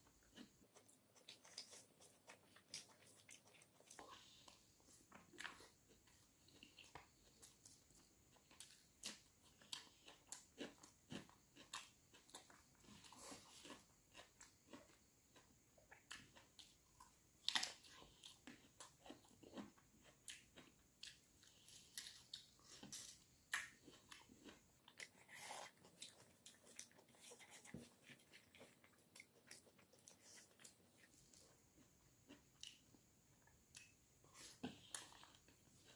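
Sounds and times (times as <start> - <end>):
person chewing and crunching food: 0.0 - 35.9.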